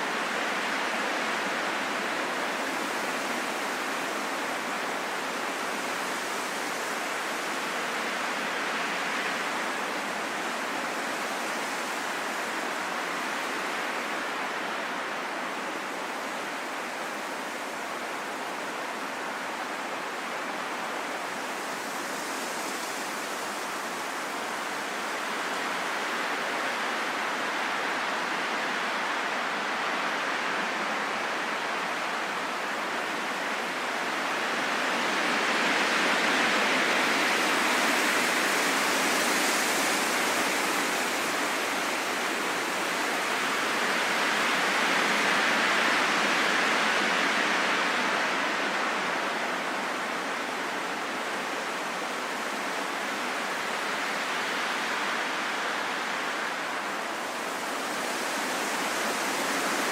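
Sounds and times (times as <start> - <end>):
rushing wind gusts: 0.0 - 59.9.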